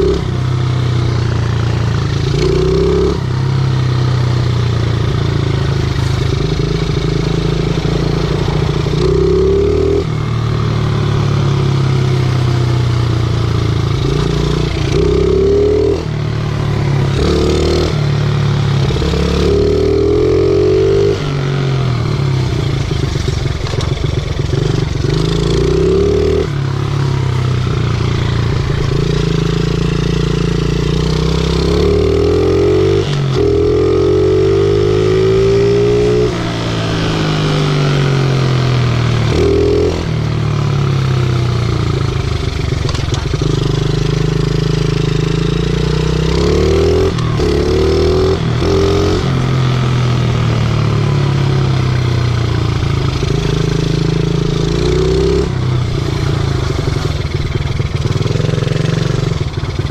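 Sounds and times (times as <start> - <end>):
small motorbike engine revving: 1.0 - 4.2, 4.8 - 59.9.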